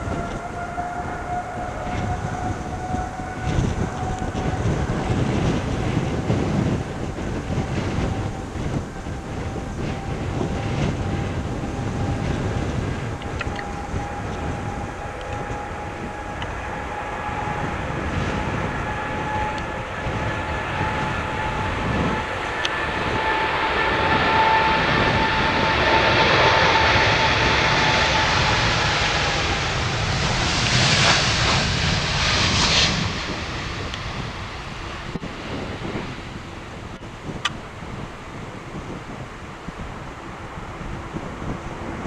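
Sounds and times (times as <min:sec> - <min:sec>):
jet airliner taking off: 0:00.0 - 0:42.0.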